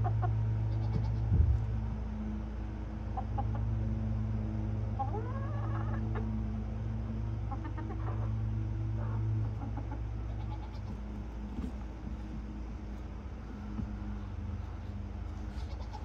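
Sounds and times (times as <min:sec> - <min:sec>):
hens clucking and calling: 0:00.0 - 0:01.3, 0:03.0 - 0:03.8, 0:04.9 - 0:16.0
steady low hum: 0:00.0 - 0:16.0.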